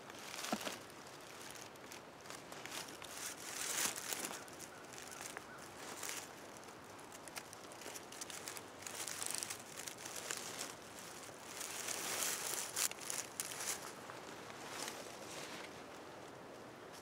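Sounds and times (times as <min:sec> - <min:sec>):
dry leaves rustling and crinkling: 0:00.0 - 0:16.0.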